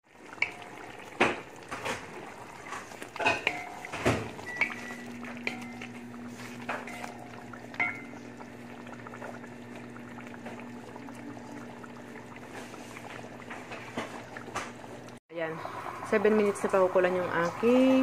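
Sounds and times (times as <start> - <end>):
curry simmering and bubbling in pot: 0.0 - 18.0.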